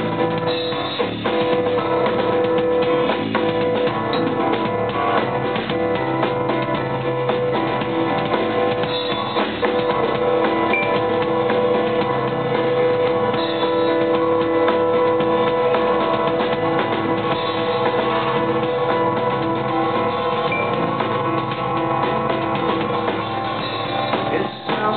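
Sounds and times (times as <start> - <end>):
drum kit beat: 0.0 - 24.9
electric guitar: 0.0 - 24.9
held keyboard notes: 0.0 - 24.9.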